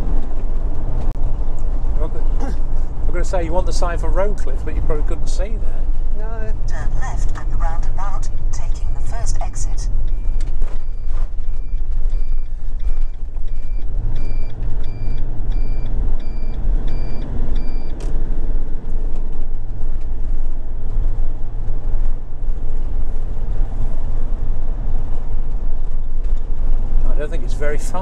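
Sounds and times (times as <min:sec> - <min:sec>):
vehicle engine and road noise: 0:00.0 - 0:28.0
turn indicator ticking: 0:02.6 - 0:28.0.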